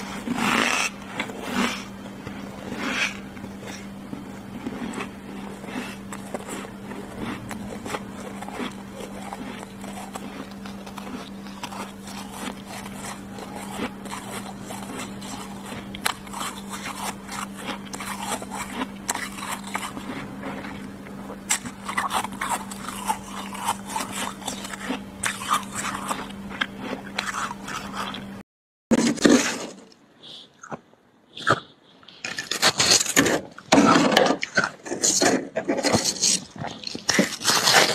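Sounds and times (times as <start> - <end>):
freezer frost being scraped: 0.0 - 20.9, 21.5 - 28.2, 28.9 - 29.8, 32.2 - 37.9
steady hum: 0.0 - 37.9.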